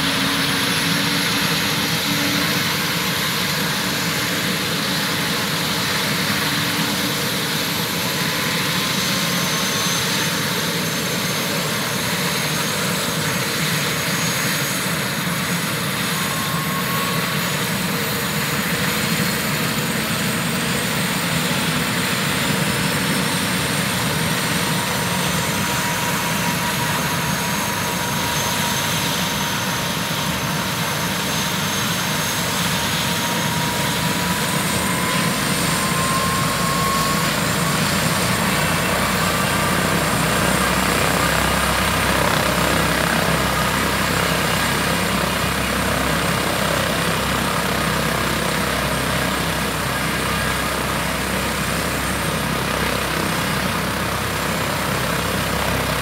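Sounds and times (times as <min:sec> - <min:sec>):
helicopter rotor rush: 0:00.0 - 0:56.0
helicopter turbine whine: 0:00.0 - 0:56.0.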